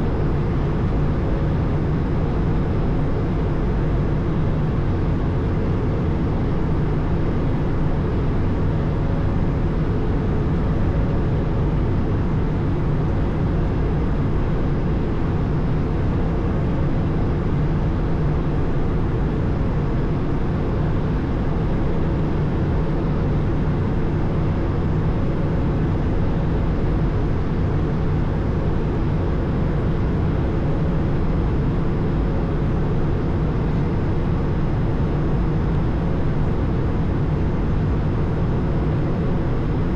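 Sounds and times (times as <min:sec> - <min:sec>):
airliner cabin engine drone: 0:00.0 - 0:39.9
faint steady hum: 0:00.0 - 0:39.9.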